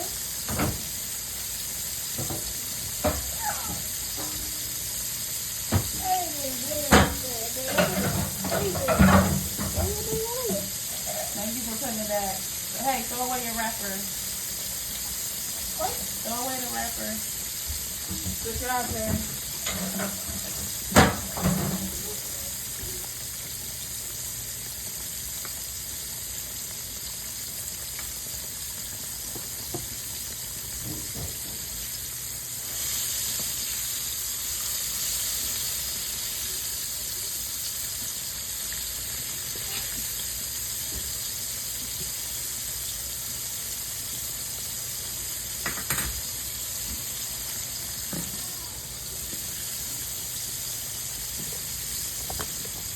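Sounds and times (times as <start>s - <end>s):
food sizzling in hot oil: 0.0s - 52.9s.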